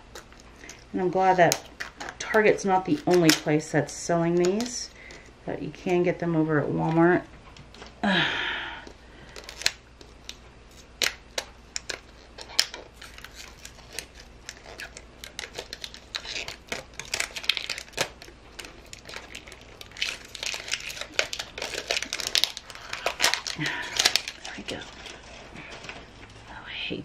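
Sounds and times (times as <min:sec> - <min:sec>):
plastic wrapper crinkling: 0:00.0 - 0:06.0, 0:08.8 - 0:26.5.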